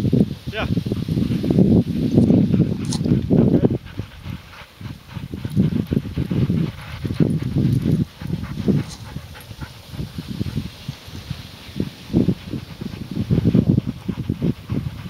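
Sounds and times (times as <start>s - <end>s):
sled dogs running: 0.5s - 15.0s.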